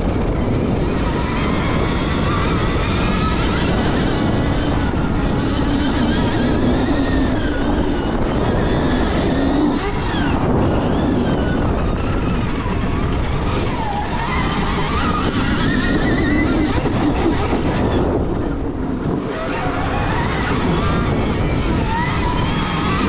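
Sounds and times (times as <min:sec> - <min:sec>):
electric motor whining: 0:00.0 - 0:23.0
wind rush on microphone: 0:00.0 - 0:23.0.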